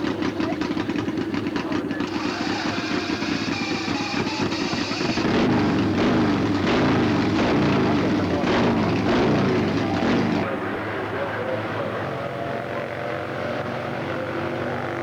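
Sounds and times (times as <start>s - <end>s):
racing motorcycle engines passing: 0.0s - 15.0s.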